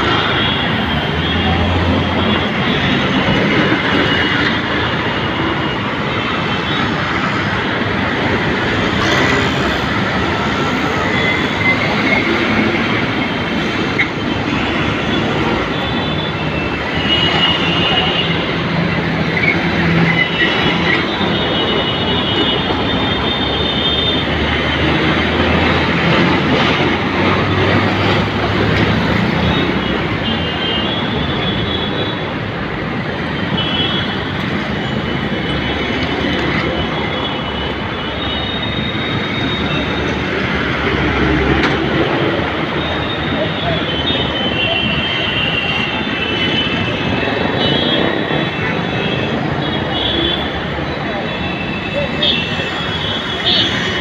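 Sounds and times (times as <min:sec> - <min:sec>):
heavy road traffic: 0:00.0 - 0:54.0.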